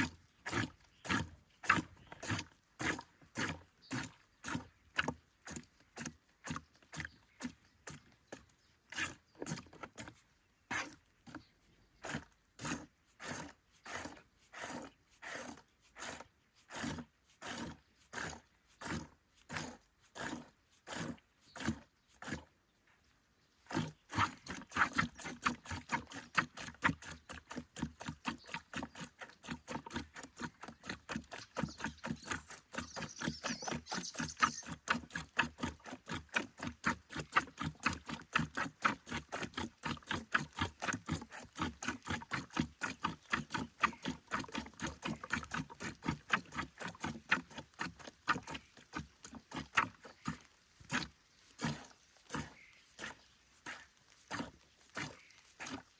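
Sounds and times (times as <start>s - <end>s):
milk squirting: 0.0s - 22.5s, 23.6s - 55.9s.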